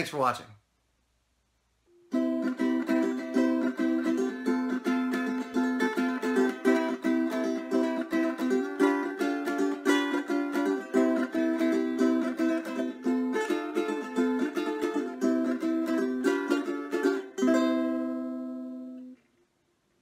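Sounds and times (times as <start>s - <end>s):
plucked string tune: 1.9s - 19.2s.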